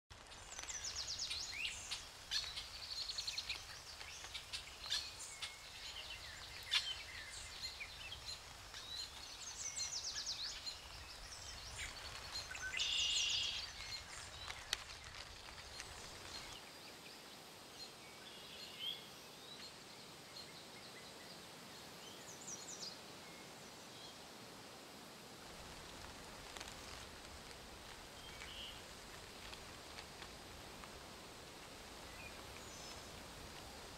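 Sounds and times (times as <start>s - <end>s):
steady hiss: 0.1s - 33.9s.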